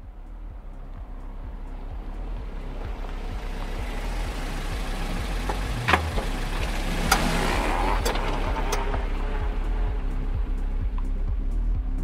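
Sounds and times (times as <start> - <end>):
low rumbling drone: 0.0 - 12.0.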